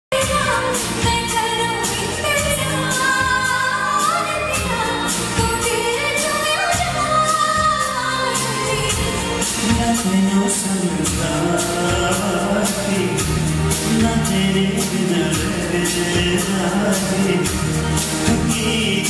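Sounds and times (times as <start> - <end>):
live band: 0.1 - 19.0
steady drum beat: 0.1 - 19.0.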